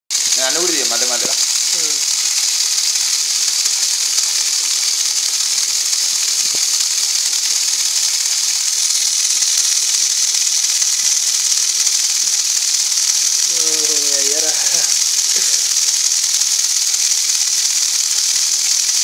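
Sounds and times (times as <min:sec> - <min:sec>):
electric fan hissing: 0:00.1 - 0:19.0.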